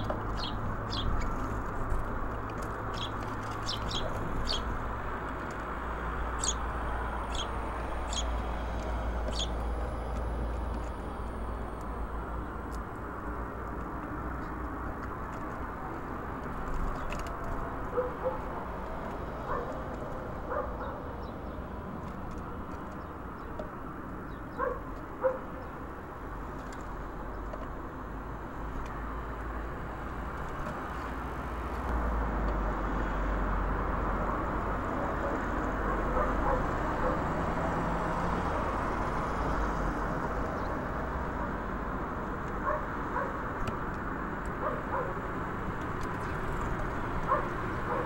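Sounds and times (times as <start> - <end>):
distant road traffic rumble: 0.0 - 48.0.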